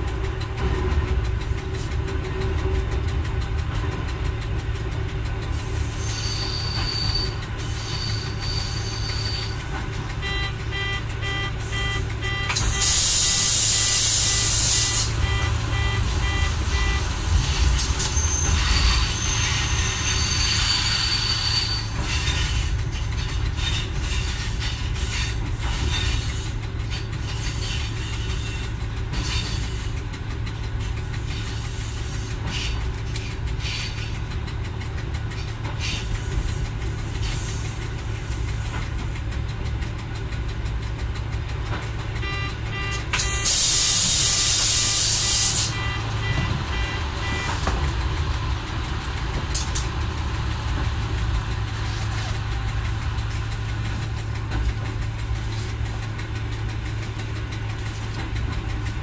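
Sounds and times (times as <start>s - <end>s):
railcar engine hum: 0.0s - 59.0s
wheels clicking on rails: 0.0s - 59.0s.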